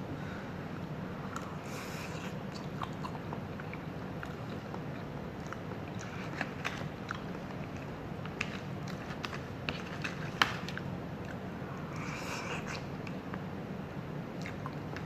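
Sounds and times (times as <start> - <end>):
low background hum: 0.0 - 15.0
person chewing food: 1.2 - 13.1, 14.4 - 15.0.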